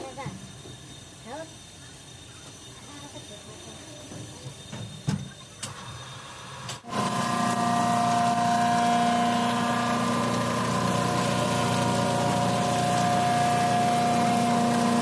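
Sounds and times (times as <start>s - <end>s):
workshop machine motor whine: 0.0s - 15.0s.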